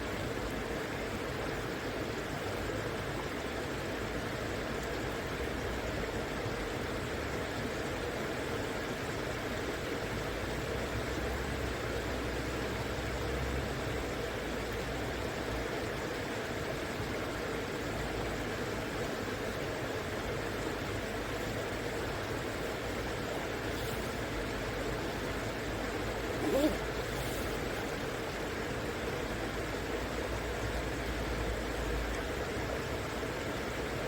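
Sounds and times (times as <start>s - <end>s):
shallow river flowing: 0.0s - 34.0s.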